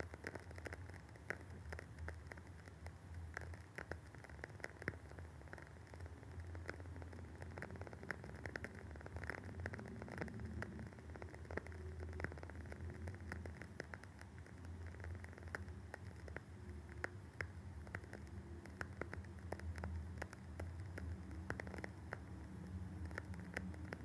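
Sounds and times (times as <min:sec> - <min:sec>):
candle crackling: 0:00.0 - 0:24.0.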